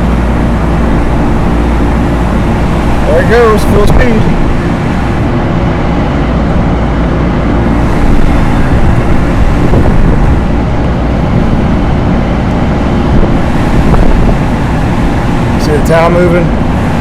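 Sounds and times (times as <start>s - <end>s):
exhaust fan droning: 0.0s - 17.0s.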